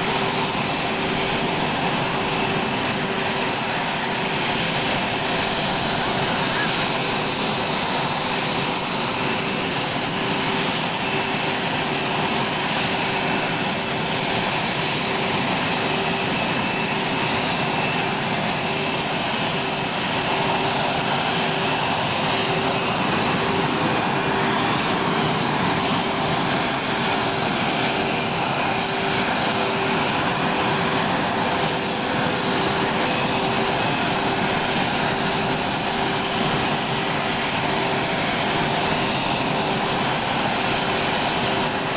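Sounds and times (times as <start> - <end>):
jet engine whine: 0.0 - 41.9.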